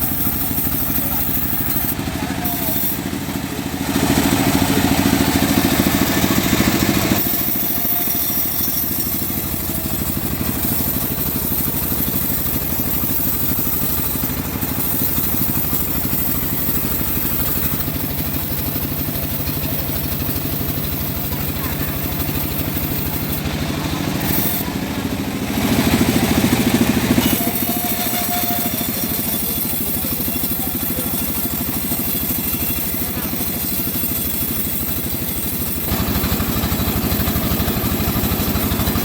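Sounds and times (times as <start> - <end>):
bandsaw sawmill running: 0.0 - 39.0.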